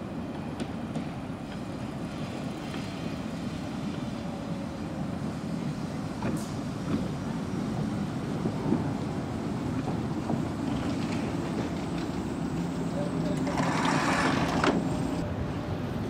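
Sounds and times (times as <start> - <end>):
tram rolling on track: 0.0 - 16.0.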